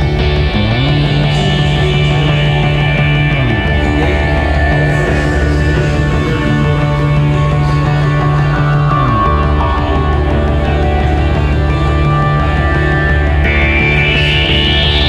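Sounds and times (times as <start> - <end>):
loud rock music: 0.0 - 15.0
sliding bass line: 0.0 - 15.0.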